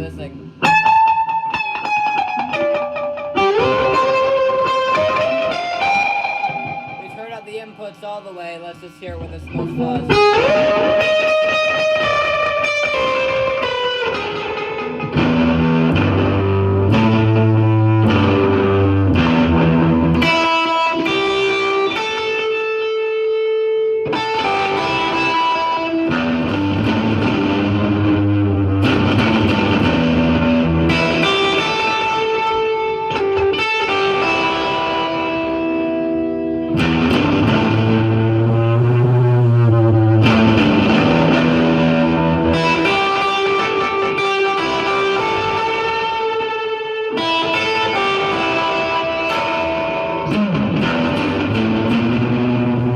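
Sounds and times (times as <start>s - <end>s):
distorted electric guitar with delay: 0.0s - 52.9s.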